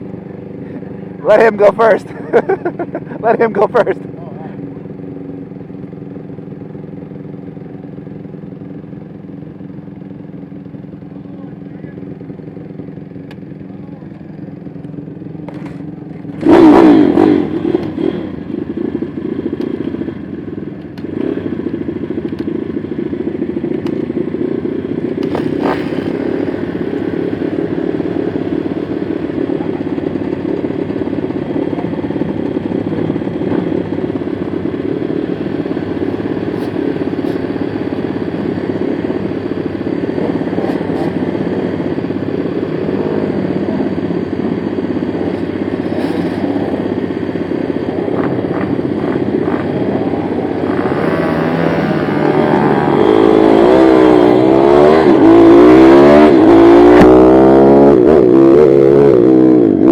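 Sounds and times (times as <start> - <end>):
small motorcycle engine running: 0.0 - 58.1.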